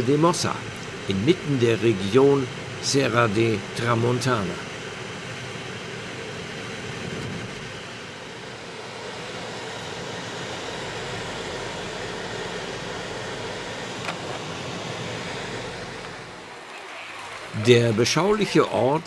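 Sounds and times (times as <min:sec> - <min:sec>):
car cabin road and engine noise: 0:00.0 - 0:19.0.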